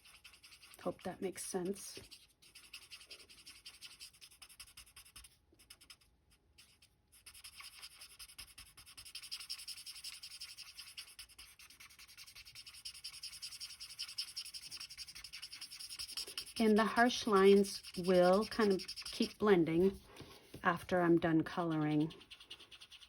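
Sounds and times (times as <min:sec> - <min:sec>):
marker tip rubbing on card: 0:00.0 - 0:21.0, 0:21.6 - 0:23.0.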